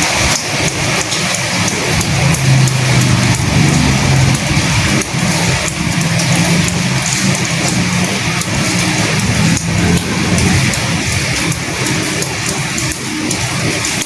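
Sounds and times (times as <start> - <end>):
steady rain with drops tapping: 0.0 - 14.0.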